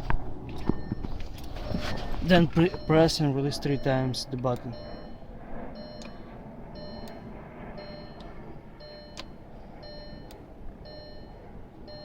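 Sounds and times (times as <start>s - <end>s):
steady low rumble: 0.0s - 12.0s
electronic warning chime beeping: 0.8s - 12.0s.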